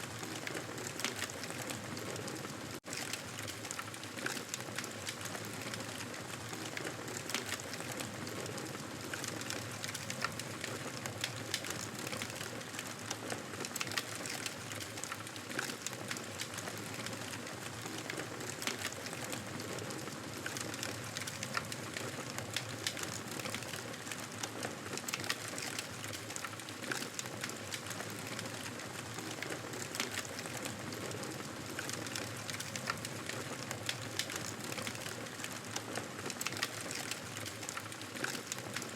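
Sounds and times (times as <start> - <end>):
burning wood crackling and popping: 0.1 - 38.9.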